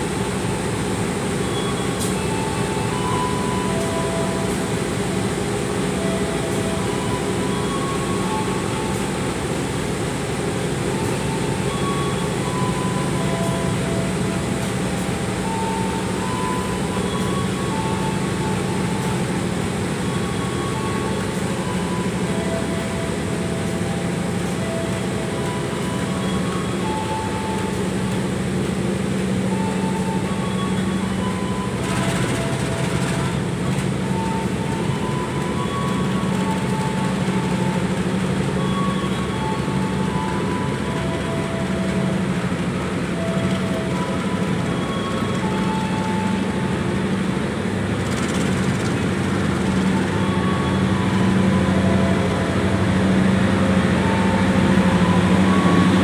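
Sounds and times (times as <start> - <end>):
diesel locomotive drone: 0.0 - 56.0
train wheels rumbling on rails: 0.0 - 56.0
faint tune: 1.4 - 9.3, 10.9 - 47.7, 49.5 - 56.0.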